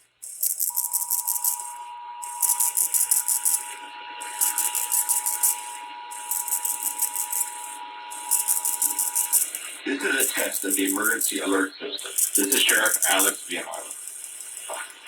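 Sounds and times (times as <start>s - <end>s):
high-pitched rattling hiss pulses: 0.0s - 15.0s
steady alarm tone: 0.0s - 15.0s.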